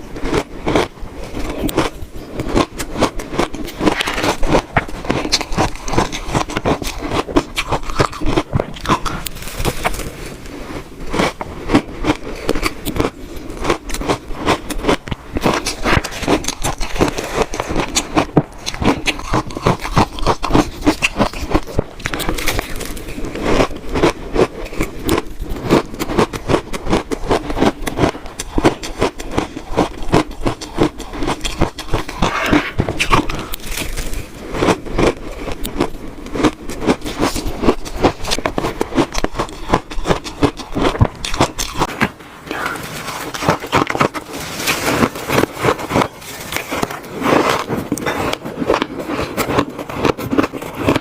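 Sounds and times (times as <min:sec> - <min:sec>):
crunching shaved ice: 0:00.0 - 0:51.0.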